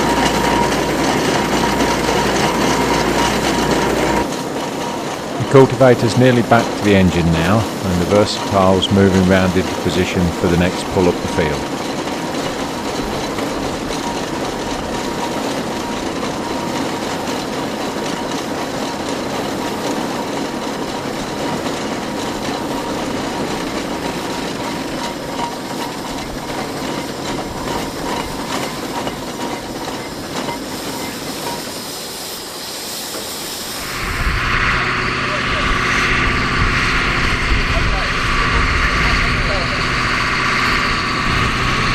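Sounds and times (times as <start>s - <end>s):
steam engine mechanical clatter: 0.0s - 41.9s.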